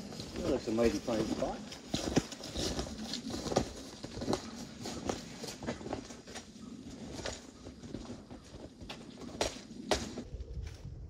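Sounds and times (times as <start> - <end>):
footsteps crunching through snow: 0.0 - 10.9.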